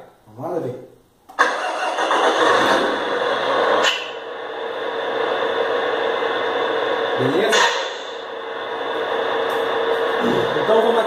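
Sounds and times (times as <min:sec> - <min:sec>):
simulated diesel engine idling: 0:01.4 - 0:11.0.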